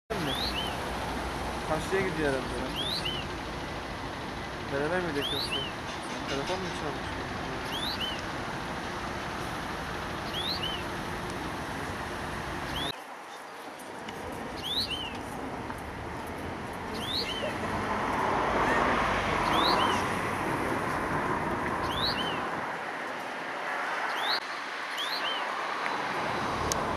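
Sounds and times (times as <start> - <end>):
traffic hum: 0.1 - 26.9.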